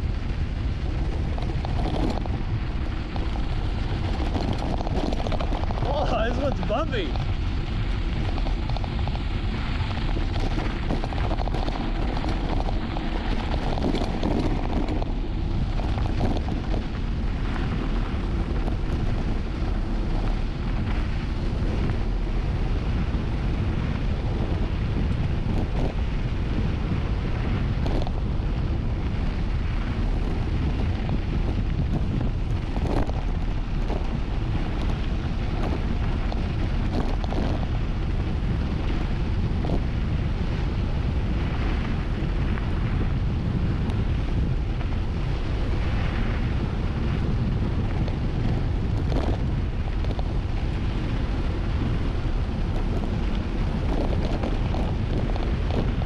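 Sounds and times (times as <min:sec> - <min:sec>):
bike knocks and rattles: 0:00.0 - 0:06.1, 0:07.1 - 0:56.0
wind buffeting microphone: 0:00.0 - 0:56.0.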